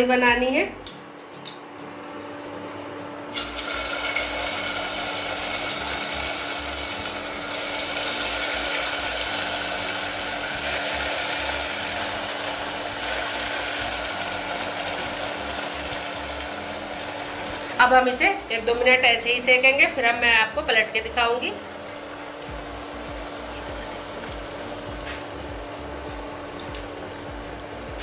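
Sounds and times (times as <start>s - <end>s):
faint steady hum: 0.0s - 28.0s
oil sizzling and crackling: 0.8s - 28.0s.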